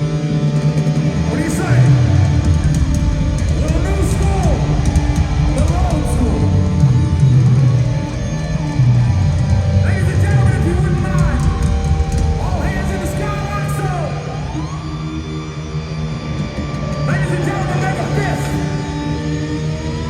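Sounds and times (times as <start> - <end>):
distorted electric guitar: 0.0 - 20.0
drums: 0.0 - 20.0.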